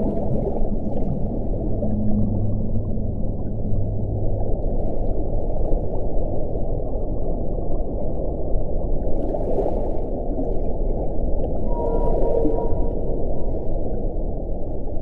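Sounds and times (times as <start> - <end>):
wind blowing with low rumble: 0.0 - 15.0.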